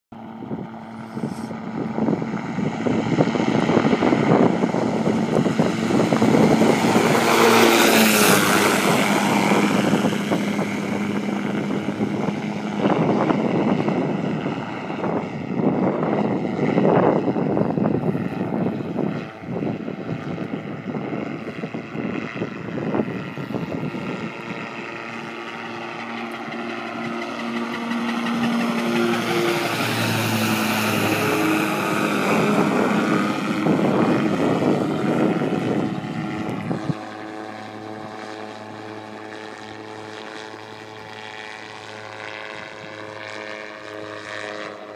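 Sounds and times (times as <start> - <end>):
model aircraft motor humming: 0.2 - 44.9.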